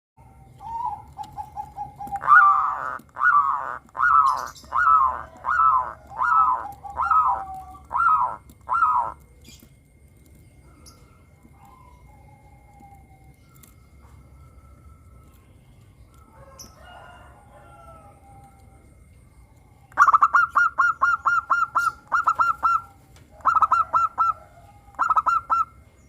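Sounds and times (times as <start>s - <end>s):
dove cooing: 0.2s - 26.0s.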